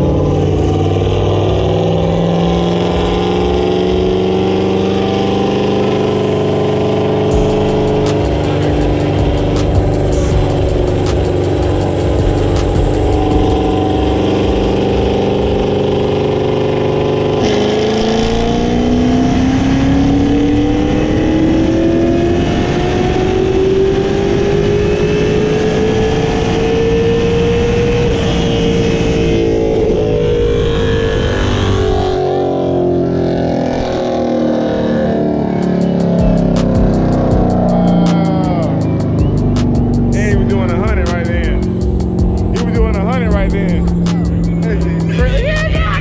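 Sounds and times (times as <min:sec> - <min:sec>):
car engine revving on dyno: 0:00.0 - 0:46.0.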